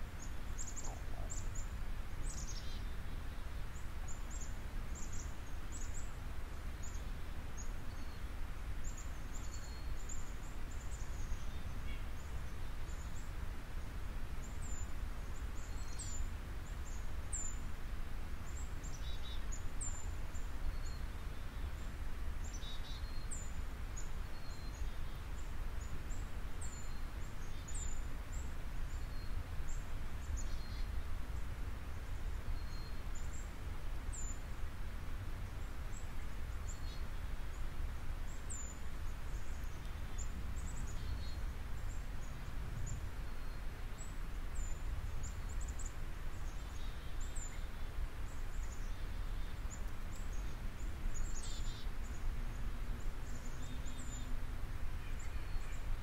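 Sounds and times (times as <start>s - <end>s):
small birds chirping: 0.0s - 13.4s, 14.4s - 17.7s, 18.4s - 56.0s.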